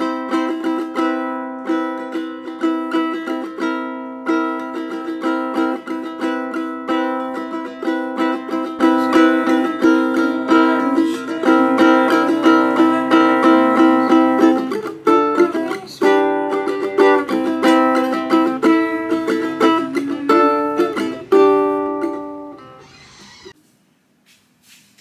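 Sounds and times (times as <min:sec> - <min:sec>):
ukulele strummed in chords: 0:00.0 - 0:22.8.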